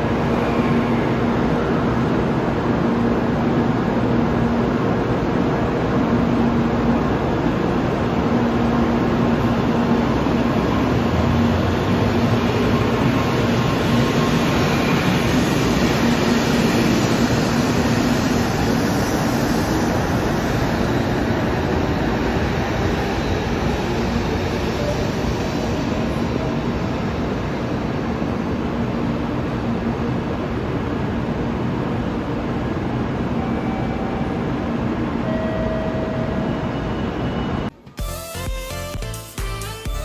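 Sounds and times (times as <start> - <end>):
train rumbling slowly: 0.0 - 38.2.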